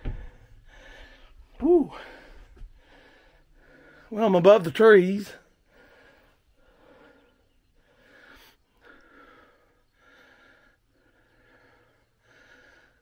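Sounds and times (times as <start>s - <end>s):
man breathing hard: 0.0s - 4.1s, 5.4s - 13.0s.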